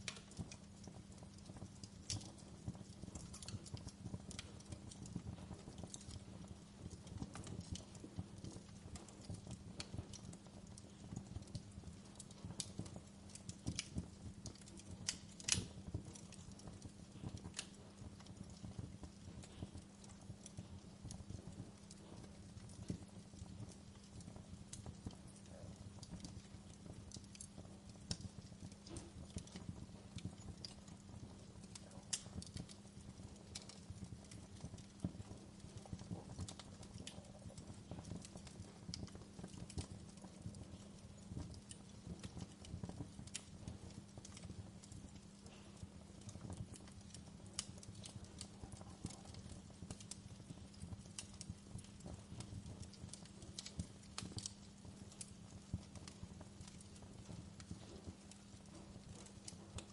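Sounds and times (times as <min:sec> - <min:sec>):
burning logs crackling and popping: 0:00.0 - 0:59.9.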